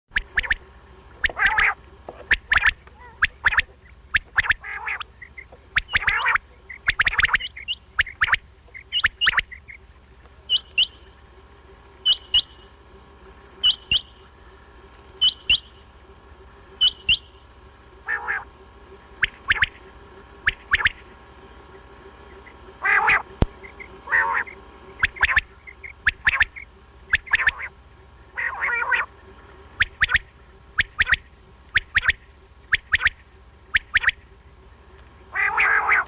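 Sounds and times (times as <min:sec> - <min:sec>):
recorded quail calls: 0:00.1 - 0:34.4, 0:35.2 - 0:36.0.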